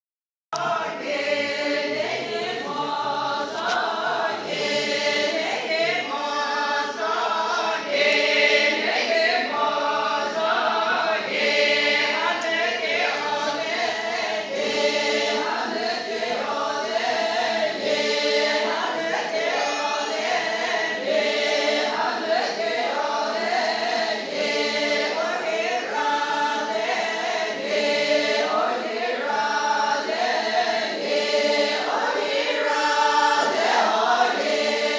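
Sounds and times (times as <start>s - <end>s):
choir singing: 0.6s - 34.9s.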